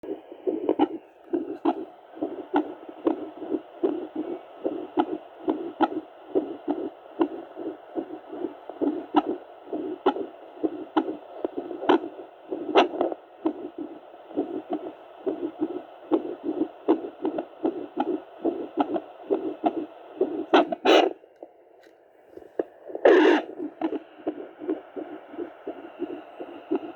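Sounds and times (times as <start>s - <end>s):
heartbeat whooshing pulses: 0.0s - 21.2s, 22.4s - 26.9s.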